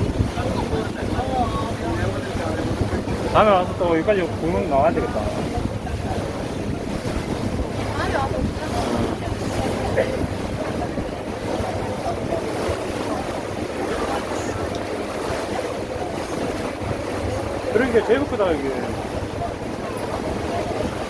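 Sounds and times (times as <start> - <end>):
boat engine hum: 0.0 - 21.0
water noise: 0.0 - 21.0
wind buffeting microphone: 0.0 - 21.0.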